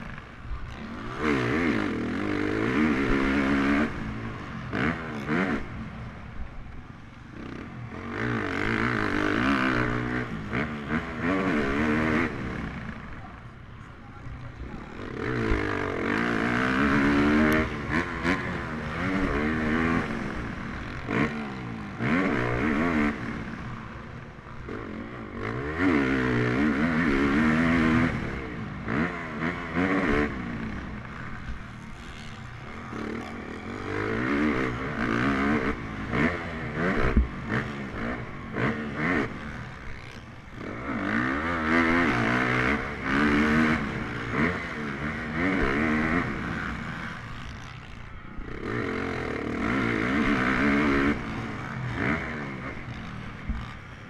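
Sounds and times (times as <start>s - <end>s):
motocross bike engine revving: 0.0s - 13.3s, 14.6s - 54.0s.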